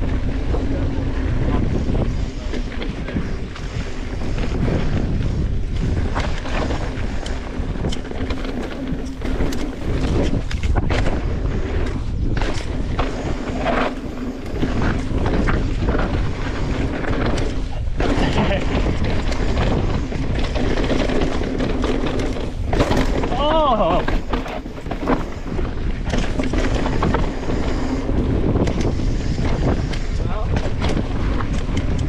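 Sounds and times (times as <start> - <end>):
bike knocks and rattles: 0.0 - 32.0
bike tyres on dirt: 0.0 - 32.0
wind rumbling on microphone: 0.0 - 32.0.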